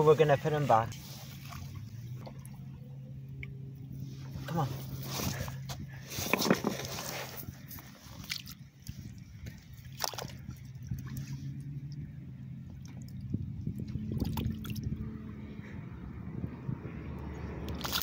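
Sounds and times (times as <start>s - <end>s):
water splashing: 0.0s - 15.2s, 17.7s - 18.0s.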